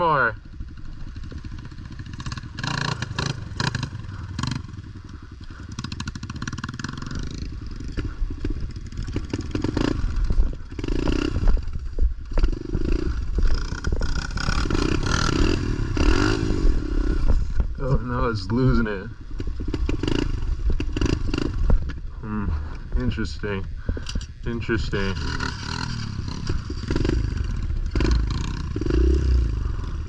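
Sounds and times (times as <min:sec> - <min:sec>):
small motorbike engine revving: 0:00.5 - 0:18.0, 0:19.2 - 0:22.8, 0:23.8 - 0:30.0.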